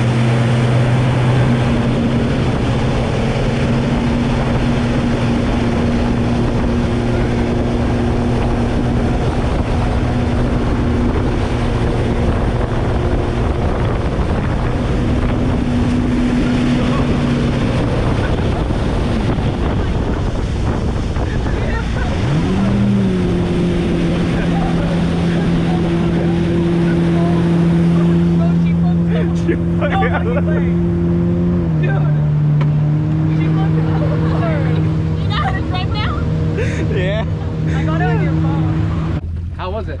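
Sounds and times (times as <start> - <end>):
wind buffeting microphone: 0.0 - 39.3
motorboat engine droning: 0.0 - 40.0.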